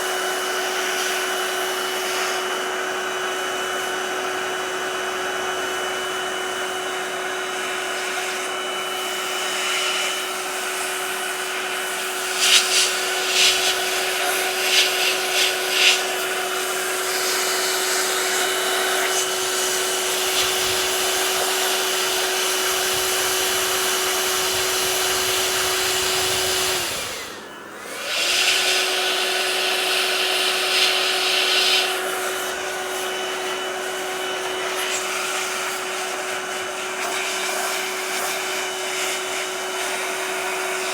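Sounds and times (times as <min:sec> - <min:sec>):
electric air blower running: 0:00.0 - 0:40.9.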